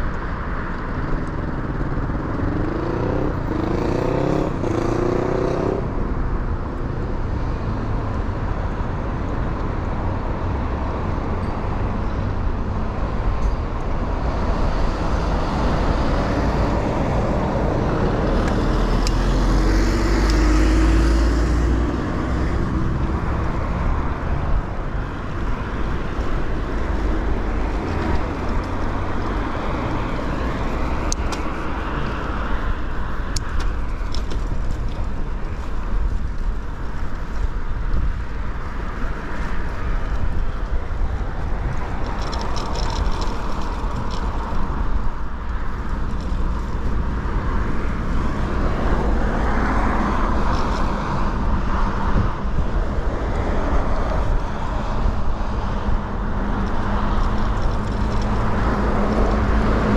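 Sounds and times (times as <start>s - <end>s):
passing cars: 0.0s - 59.9s
wind rumbling on microphone: 0.0s - 59.9s.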